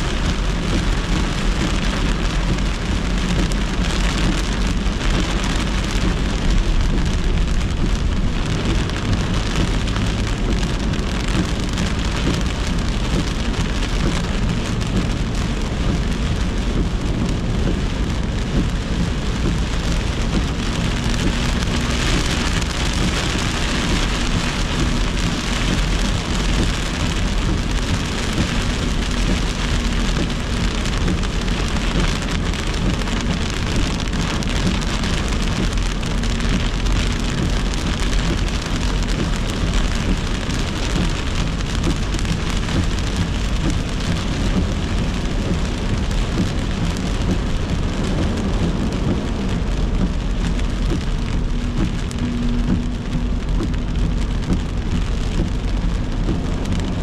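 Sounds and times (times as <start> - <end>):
heavy rain on car roof: 0.0 - 57.0
tyres rumbling on wet road: 0.0 - 57.0.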